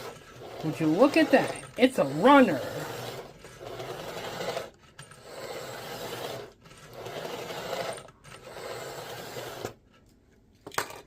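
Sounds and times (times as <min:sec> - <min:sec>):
model train motor whirring: 0:00.0 - 0:09.8.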